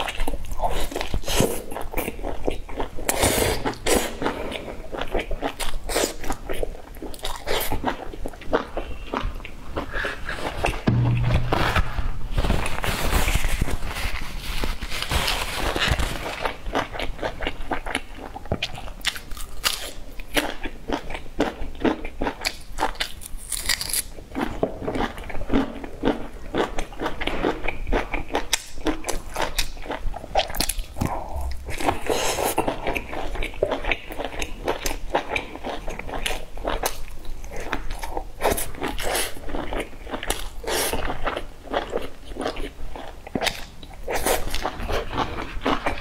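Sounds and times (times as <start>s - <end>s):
crunchy biting and chewing: 0.0s - 11.8s, 15.0s - 46.0s.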